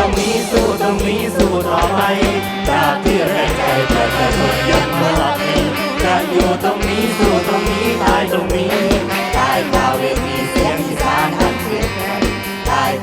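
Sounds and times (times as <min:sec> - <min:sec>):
bass: 0:00.0 - 0:13.0
fast drum beat: 0:00.0 - 0:13.0
live band music: 0:00.0 - 0:13.0.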